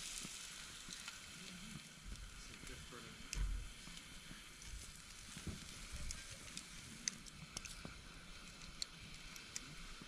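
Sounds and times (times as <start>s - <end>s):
faint hiss from hot grill: 0.0s - 10.0s.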